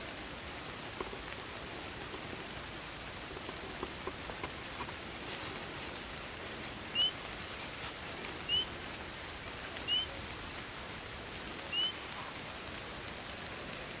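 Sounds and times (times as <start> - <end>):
rain and wind in trees: 0.0 - 14.0.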